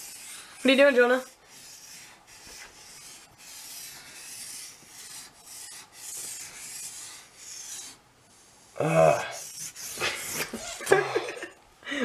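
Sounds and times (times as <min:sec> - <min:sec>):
chalk scraping on chalkboard: 0:00.0 - 0:10.9.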